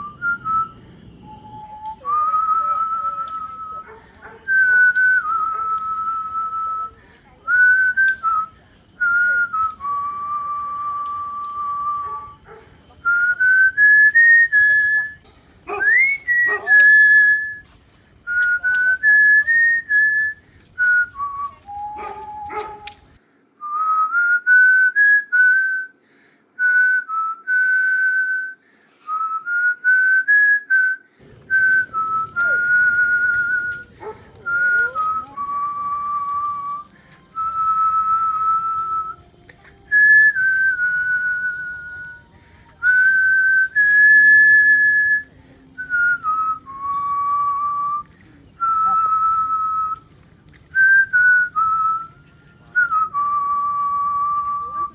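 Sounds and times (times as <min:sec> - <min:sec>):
person whistling a melody: 0:00.0 - 0:23.0, 0:23.6 - 0:26.0, 0:26.6 - 0:54.9.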